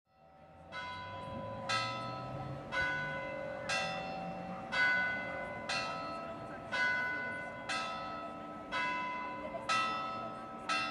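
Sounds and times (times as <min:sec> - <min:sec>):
church bell tolling: 0:00.1 - 0:10.9.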